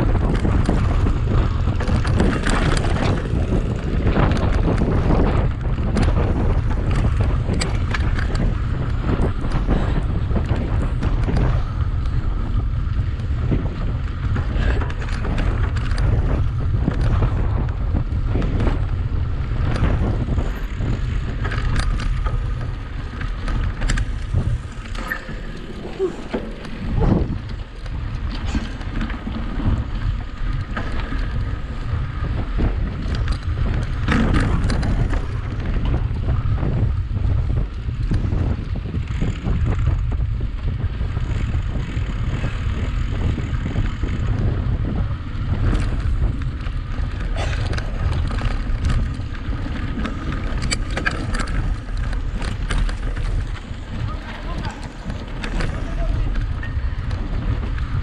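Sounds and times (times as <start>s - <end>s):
bike rattling and knocking: 0.0s - 58.0s
steady low rumble: 0.0s - 58.0s
wind buffeting microphone: 0.0s - 58.0s.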